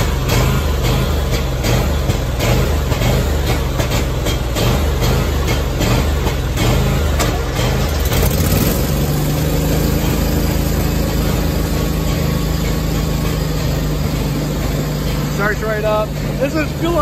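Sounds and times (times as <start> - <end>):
mower engine idling: 0.0 - 17.0.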